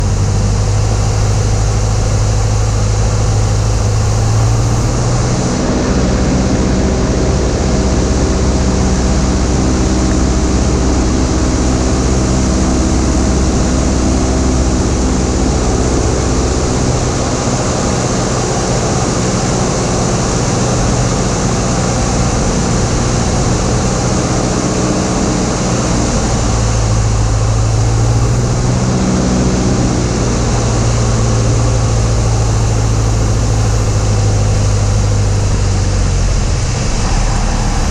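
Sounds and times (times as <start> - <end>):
airplane engine and propeller: 0.0 - 37.9.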